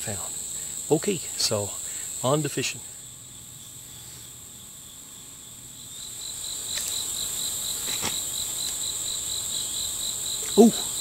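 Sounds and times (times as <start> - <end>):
insect pulsing call: 0.0 - 11.0
insects buzzing: 0.0 - 11.0.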